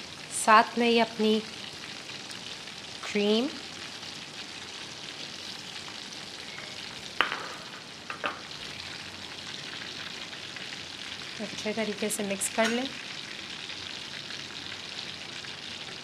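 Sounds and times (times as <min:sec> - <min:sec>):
oil sizzling in a pan: 0:00.0 - 0:16.0.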